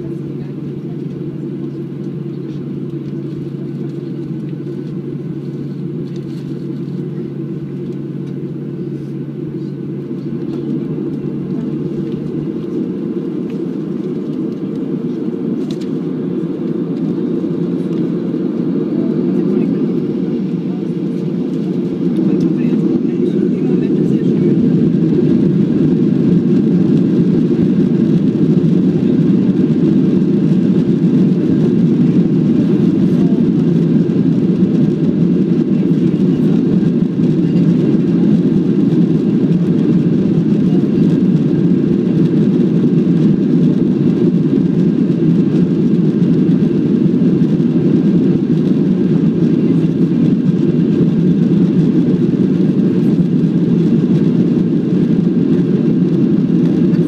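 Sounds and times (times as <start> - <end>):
jet engine rumble in cabin: 0.0 - 57.0.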